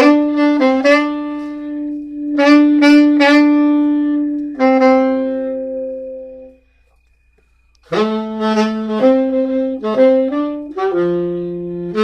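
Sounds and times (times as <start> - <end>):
saxophone low held notes: 0.0 - 6.7, 7.9 - 12.0.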